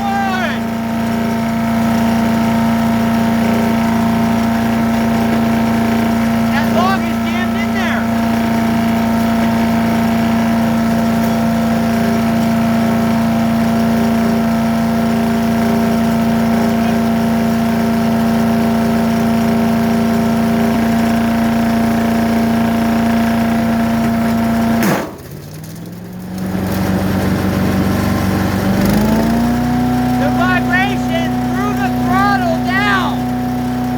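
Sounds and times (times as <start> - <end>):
wood chipper engine running: 0.0 - 33.9.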